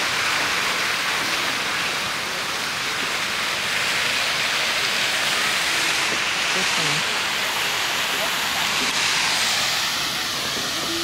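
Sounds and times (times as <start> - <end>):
falling water hiss: 0.0 - 11.0.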